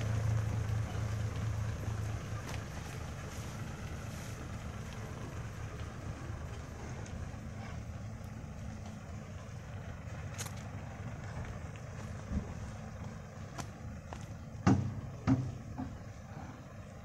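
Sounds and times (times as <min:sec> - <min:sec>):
engine running low drone: 0:00.0 - 0:17.0.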